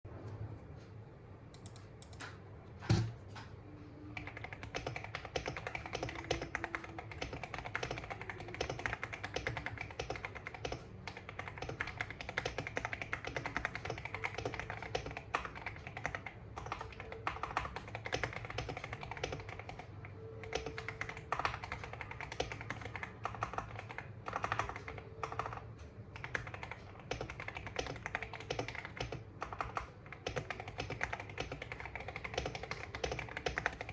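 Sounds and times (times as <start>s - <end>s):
typing on mechanical keyboard: 4.2s - 33.9s.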